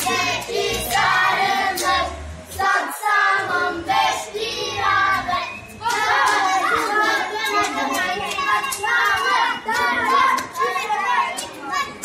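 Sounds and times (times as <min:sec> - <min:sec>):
children singing in chorus: 0:00.0 - 0:12.0.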